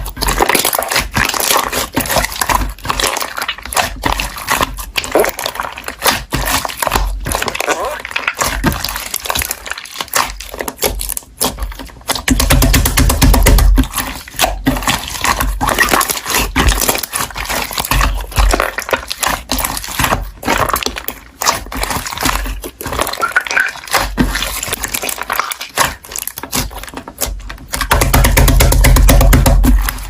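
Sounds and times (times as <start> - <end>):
slime squishing with wet crackles: 0.0 - 30.0.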